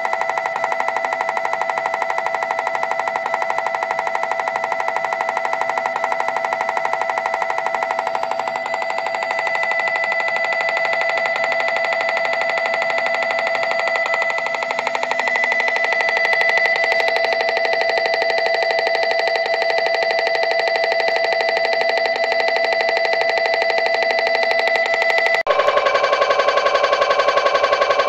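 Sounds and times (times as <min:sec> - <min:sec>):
mri scanner pulsed buzzing: 0:00.0 - 0:28.0.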